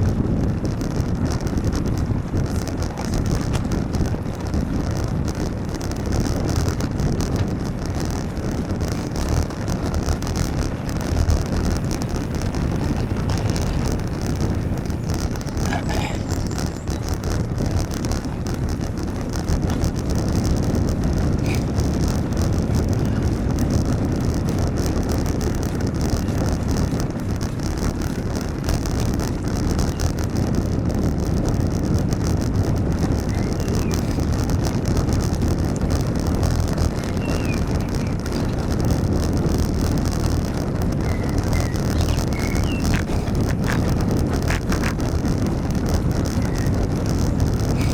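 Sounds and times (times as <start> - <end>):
road rumble and hiss: 0.0 - 47.9
wind buffeting microphone: 0.0 - 47.9.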